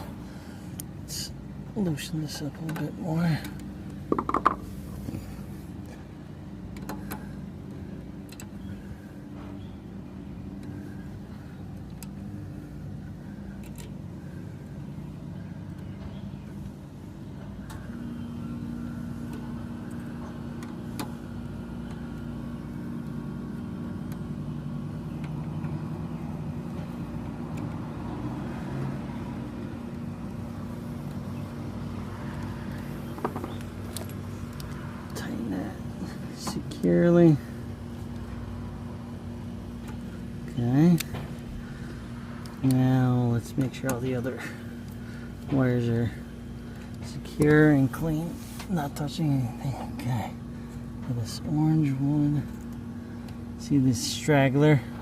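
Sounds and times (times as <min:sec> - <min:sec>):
machine hum with held tones: 0:00.0 - 0:55.0.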